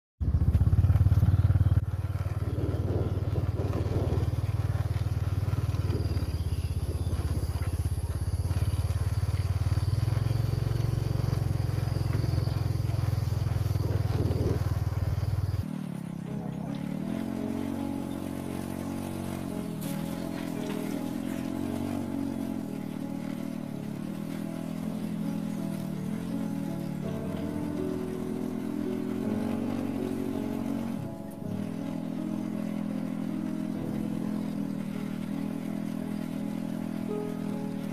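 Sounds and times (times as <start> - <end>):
pitched hum: 0.2 - 37.9
small motorcycle engine running: 0.2 - 37.9.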